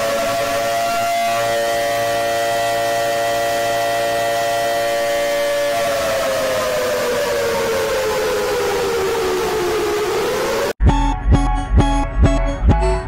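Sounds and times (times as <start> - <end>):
warning siren wailing: 0.0 - 10.8.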